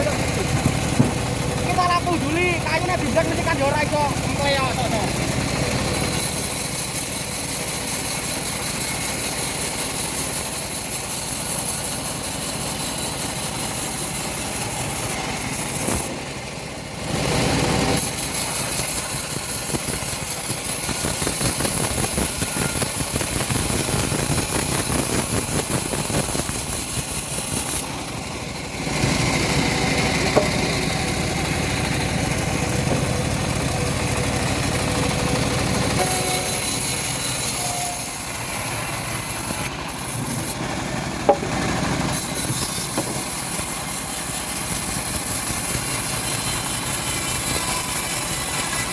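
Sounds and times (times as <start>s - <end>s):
bandsaw sawmill running: 0.0s - 48.9s.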